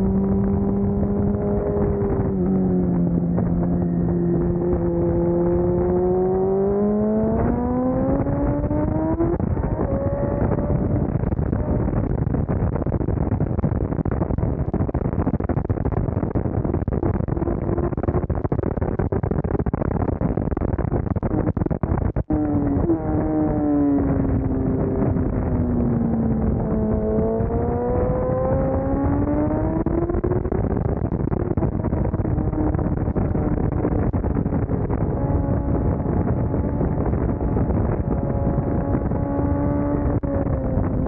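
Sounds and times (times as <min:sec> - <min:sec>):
motorcycle engine: 0:00.0 - 0:15.9, 0:16.8 - 0:41.0
wind rush: 0:00.0 - 0:41.0.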